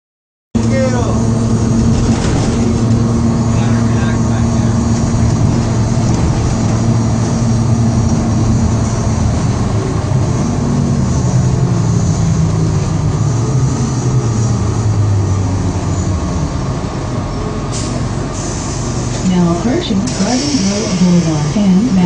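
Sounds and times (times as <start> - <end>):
bus engine humming: 0.6 - 22.0.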